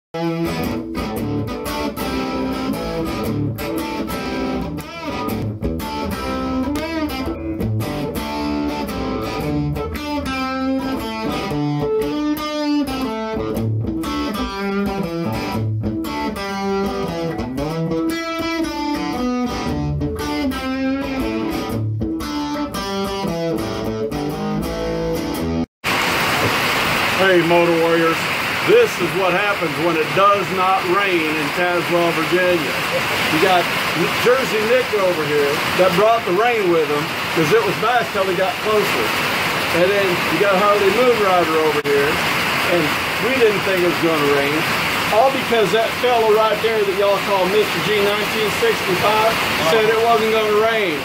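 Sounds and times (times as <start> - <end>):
solo guitar music: 0.2 - 25.6, 27.4 - 51.0.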